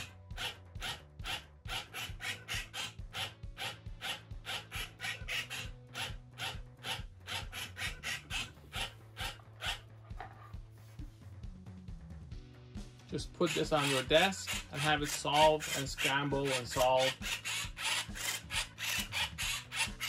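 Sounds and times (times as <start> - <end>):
robot motors turning cube faces: 0.0 - 10.3, 13.4 - 20.0.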